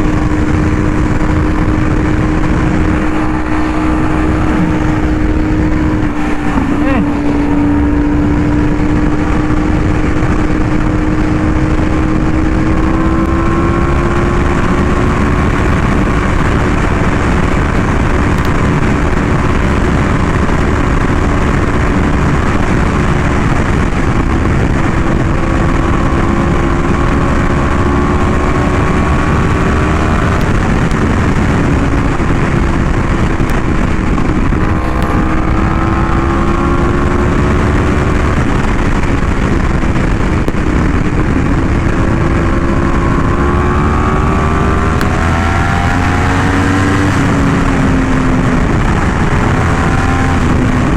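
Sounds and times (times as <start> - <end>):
motorcycle engine at cruising revs: 0.0 - 50.9
wind rush on microphone: 0.0 - 50.9.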